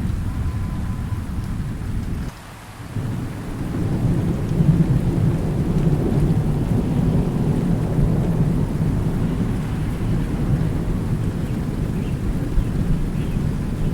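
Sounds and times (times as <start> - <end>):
steady rain hiss: 0.0 - 13.9
thunder rumbling: 0.0 - 13.9.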